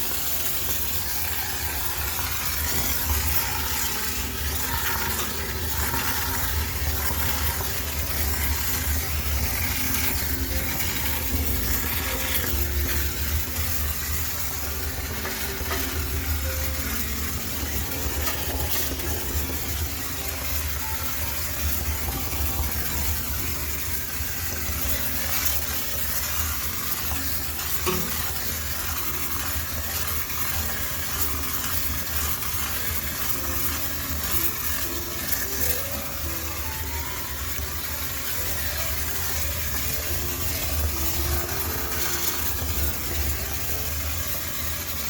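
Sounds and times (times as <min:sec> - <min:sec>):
steam cleaner hissing: 0:00.0 - 0:45.0.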